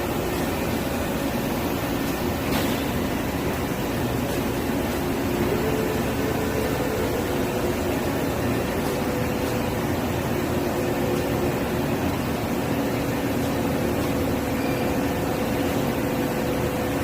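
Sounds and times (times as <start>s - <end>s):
industrial machinery hum: 0.0s - 17.0s
low steady tones: 0.0s - 17.0s.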